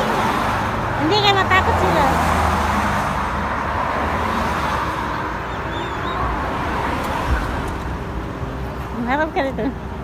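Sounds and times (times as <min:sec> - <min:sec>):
low traffic rumble: 0:00.0 - 0:10.0
passing vehicle: 0:00.0 - 0:10.0.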